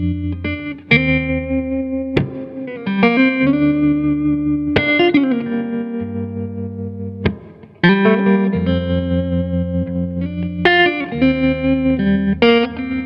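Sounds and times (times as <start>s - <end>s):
electric guitar chords: 0.0s - 13.0s.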